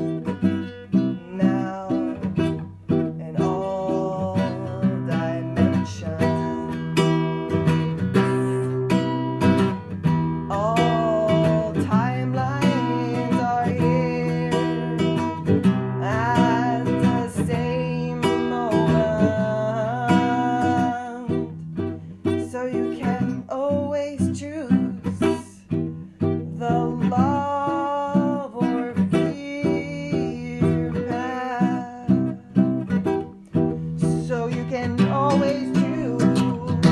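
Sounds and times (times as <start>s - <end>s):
strummed acoustic guitar: 0.0s - 36.9s.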